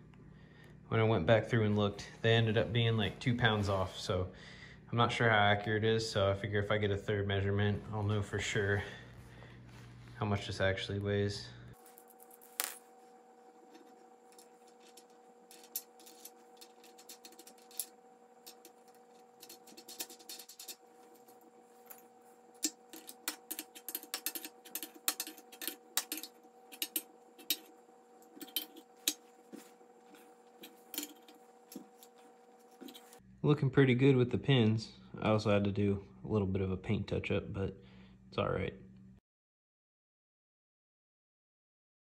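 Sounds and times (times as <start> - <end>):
faint hum: 0.0 - 39.2.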